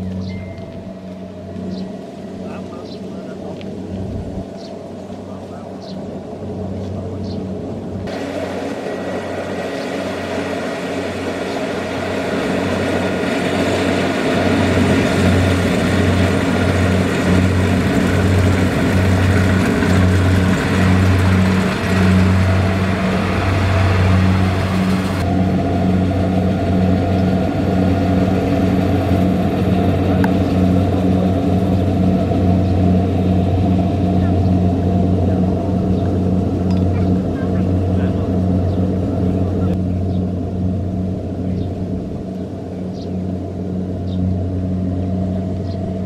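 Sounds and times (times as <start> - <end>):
combine harvester engine running: 0.0 - 46.0
high machine whir: 7.6 - 46.0.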